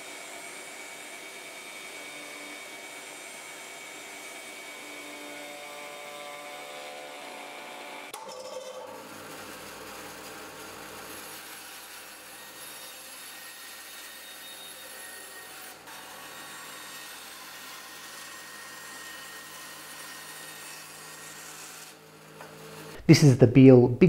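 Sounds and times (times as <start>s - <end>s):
bandsaw cutting wood: 0.0s - 23.0s.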